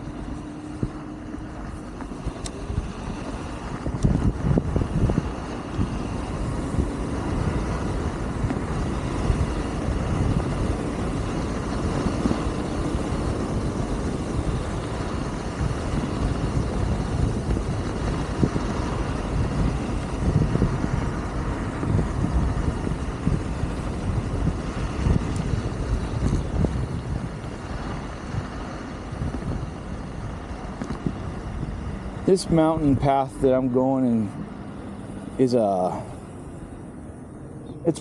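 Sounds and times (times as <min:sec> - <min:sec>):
electric motor whine: 0:00.0 - 0:37.8
wind and road noise: 0:00.0 - 0:38.0.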